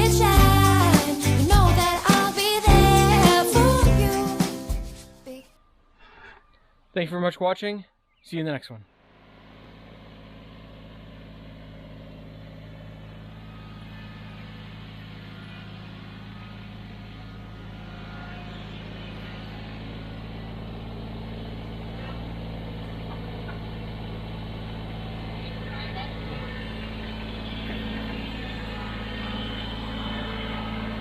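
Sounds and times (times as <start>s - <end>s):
engine idling: 0.0s - 4.3s, 9.0s - 31.0s.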